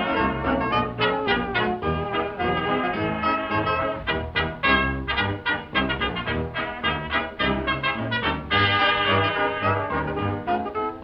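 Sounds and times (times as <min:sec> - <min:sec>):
jazz band with brass: 0:00.0 - 0:11.0.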